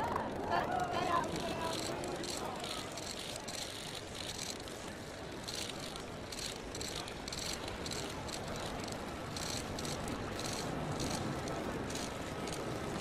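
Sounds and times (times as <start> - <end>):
crowd hubbub: 0.0 - 13.0.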